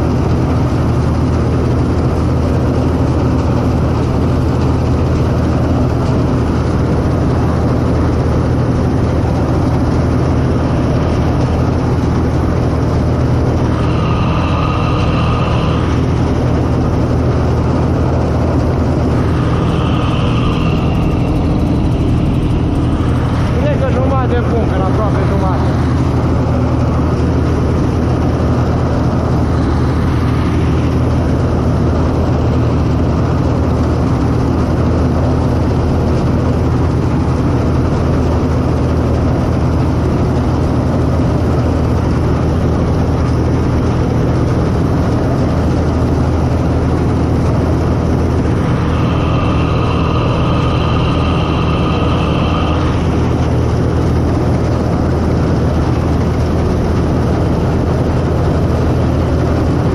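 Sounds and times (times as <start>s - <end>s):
combine harvester droning: 0.0s - 59.9s
high steady whine: 0.0s - 59.9s.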